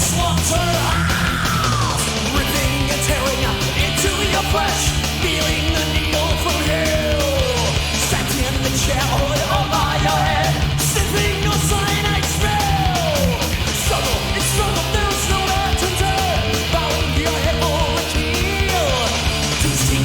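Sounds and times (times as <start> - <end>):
thrash metal band playing: 0.0 - 20.0.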